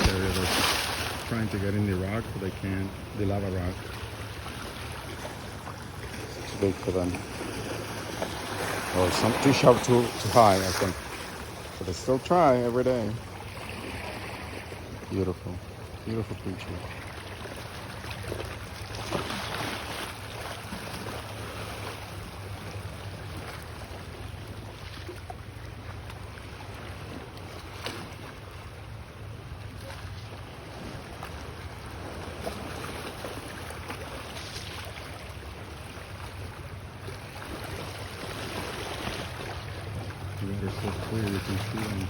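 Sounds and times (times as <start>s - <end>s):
small waves washing over rocks: 0.0s - 42.0s.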